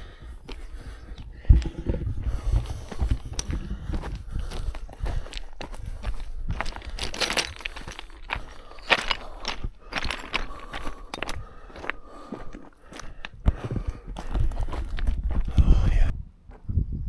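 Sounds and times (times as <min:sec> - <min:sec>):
wind rumbling on microphone: 0:00.0 - 0:11.9, 0:12.9 - 0:17.0
footsteps crunching on gravel: 0:00.0 - 0:15.6.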